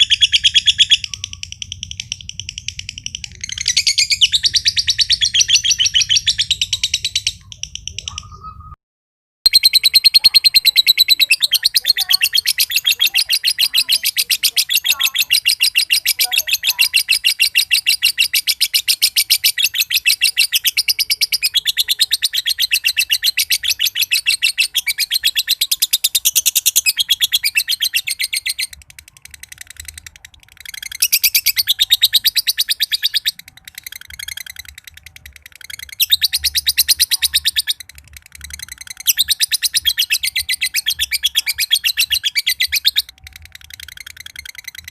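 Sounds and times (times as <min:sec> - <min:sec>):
lovebird chattering: 0:00.0 - 0:08.7, 0:09.5 - 0:44.9.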